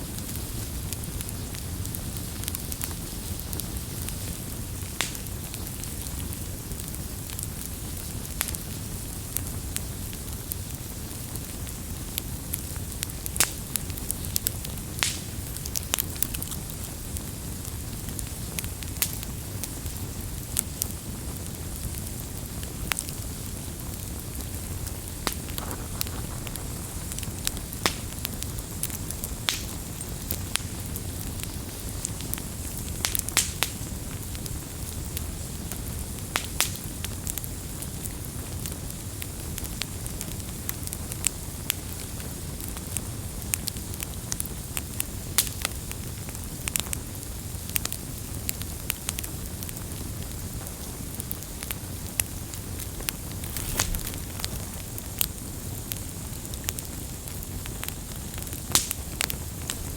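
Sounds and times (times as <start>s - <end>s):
fire rumbling: 0.0s - 59.9s
wood fire crackles and pops: 0.0s - 59.9s.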